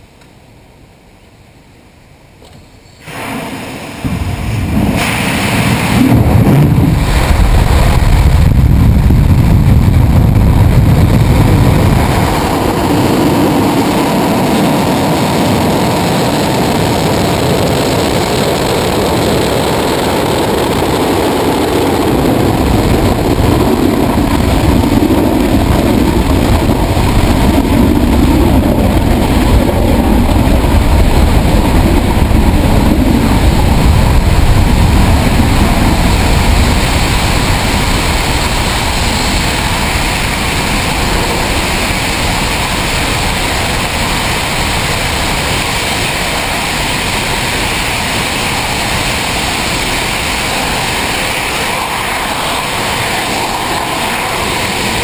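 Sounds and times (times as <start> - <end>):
rocket engine rumbling: 3.0 - 55.0.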